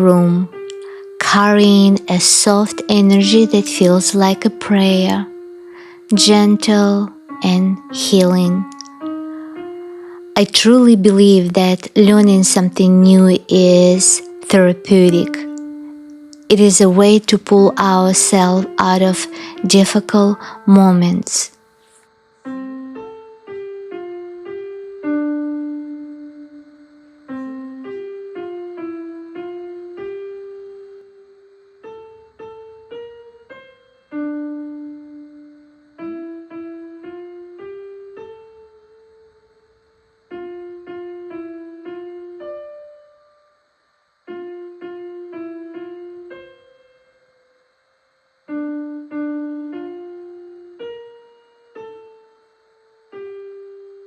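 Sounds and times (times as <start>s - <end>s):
slow piano melody: 0.0s - 54.0s.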